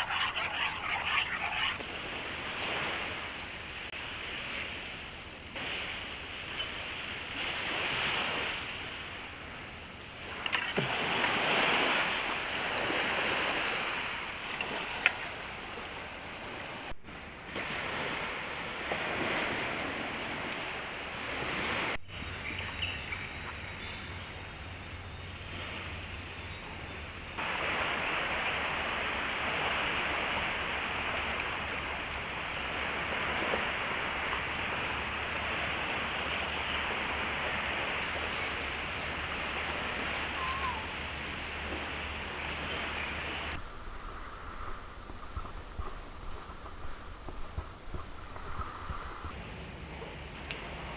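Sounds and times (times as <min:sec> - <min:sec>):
small waves washing onto sand: 0:00.0 - 0:23.6, 0:27.0 - 0:50.9.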